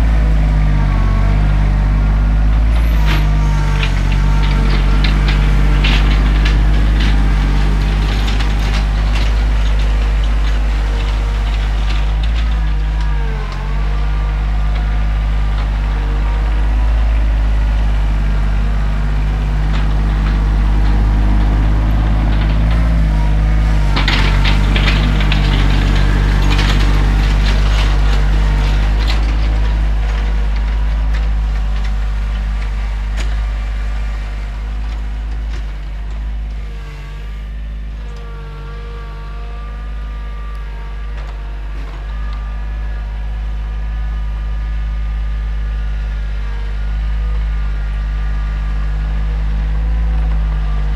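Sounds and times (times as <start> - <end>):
clattering: 0.0 - 50.9
tractor diesel engine running: 0.0 - 50.9.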